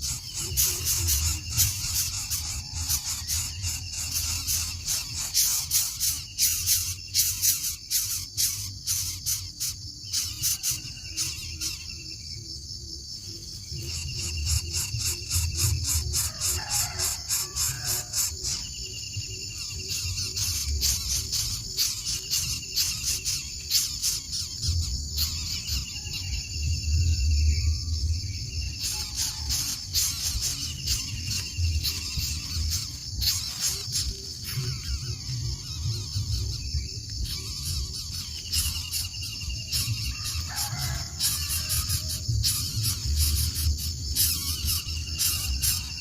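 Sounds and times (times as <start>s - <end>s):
rapid insect clicks: 0.0s - 26.5s, 27.2s - 46.0s
insects buzzing and chirping: 0.0s - 46.0s
short insect trill: 0.0s - 46.0s.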